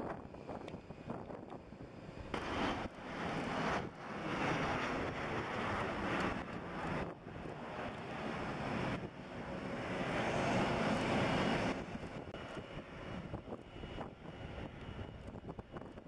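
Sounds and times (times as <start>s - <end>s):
high engine whine: 0.0s - 16.0s
jet engines rushing: 0.0s - 16.0s.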